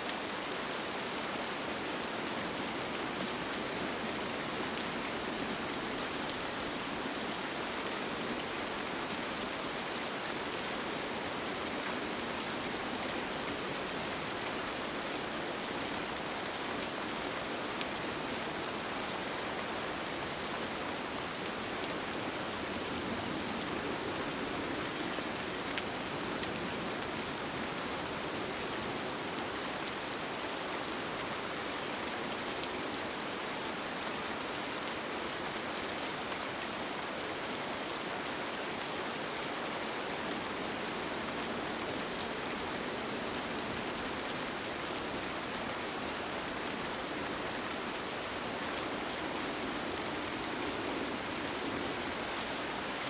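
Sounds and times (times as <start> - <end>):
rain on a tent: 0.0 - 53.0.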